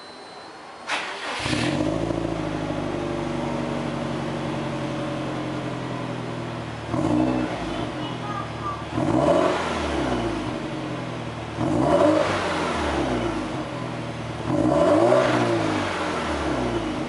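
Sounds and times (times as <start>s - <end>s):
car engine starting and idling: 0.8s - 17.0s
engine revving: 0.9s - 5.6s, 6.8s - 8.0s, 8.8s - 17.0s.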